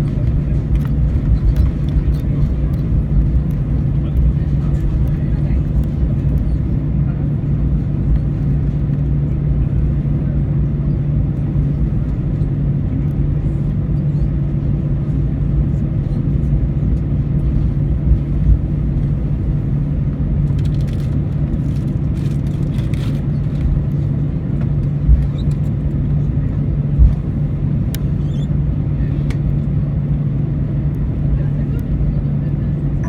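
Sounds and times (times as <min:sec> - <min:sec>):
aircraft cabin hum: 0:00.0 - 0:33.0
low rumble: 0:00.0 - 0:33.0.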